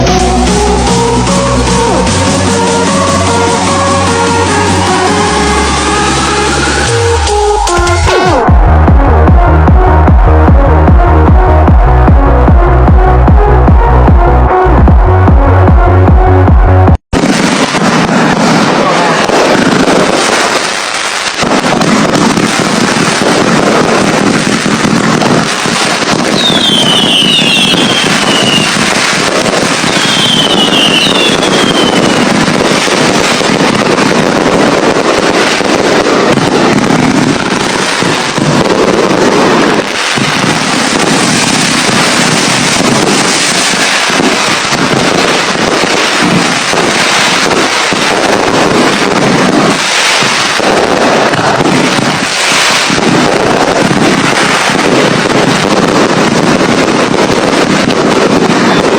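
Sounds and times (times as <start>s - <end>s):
fireworks crackling and banging: 0.0s - 13.9s, 16.5s - 58.9s.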